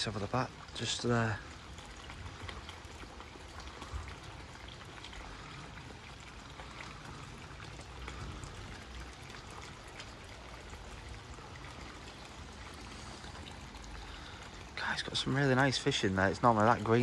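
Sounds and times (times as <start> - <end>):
raindrops ticking close by: 0.0 - 17.0.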